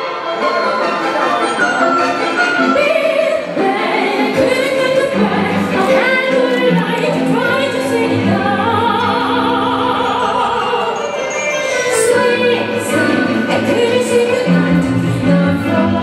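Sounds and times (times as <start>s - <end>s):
orchestral accompaniment with strings: 0.0s - 16.0s
soprano singing opera: 2.1s - 16.0s.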